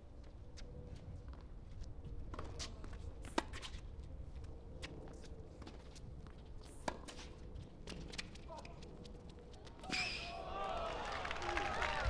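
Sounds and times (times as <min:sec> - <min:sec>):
low arena hum: 0:00.0 - 0:12.0.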